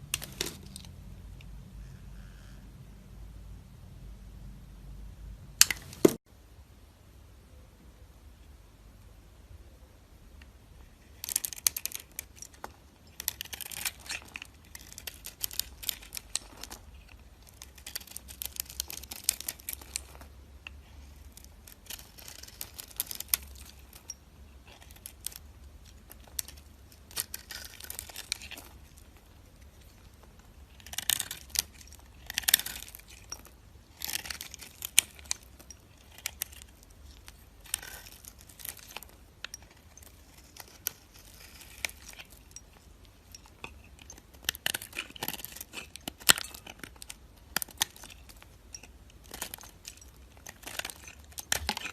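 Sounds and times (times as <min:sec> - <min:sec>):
knife carving dry soap: 0:00.0 - 0:02.6, 0:05.6 - 0:06.2, 0:10.8 - 0:51.9.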